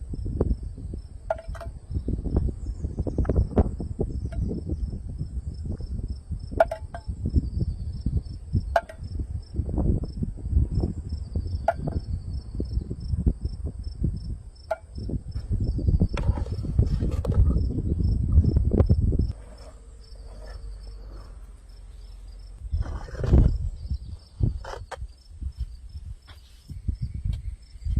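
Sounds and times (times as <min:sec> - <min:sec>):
crickets chirping: 0:00.0 - 0:27.9
high insect trill: 0:00.0 - 0:27.9.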